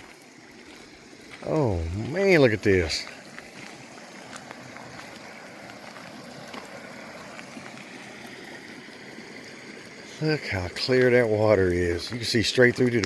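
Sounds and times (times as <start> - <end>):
running water: 0.0 - 13.0
steady rain: 0.0 - 13.0.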